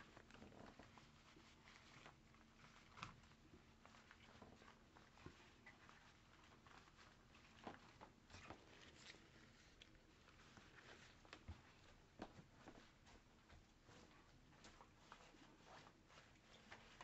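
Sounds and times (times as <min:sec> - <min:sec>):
faint rustles: 0:00.0 - 0:17.0.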